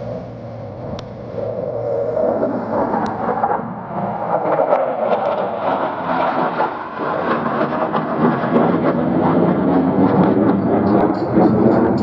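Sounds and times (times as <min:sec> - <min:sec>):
jet aircraft roar: 0:00.0 - 0:12.0.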